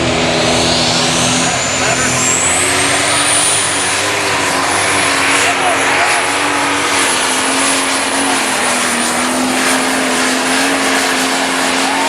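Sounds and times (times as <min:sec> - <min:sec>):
diesel engine at full throttle: 0:00.0 - 0:12.0.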